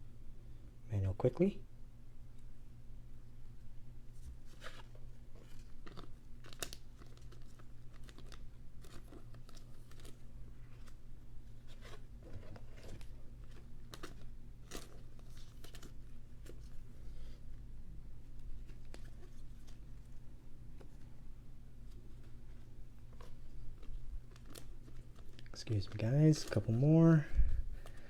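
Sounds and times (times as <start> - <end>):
steady low hum: 0.0 - 28.0
plastic sleeves crinkling: 4.2 - 17.0, 18.2 - 28.0.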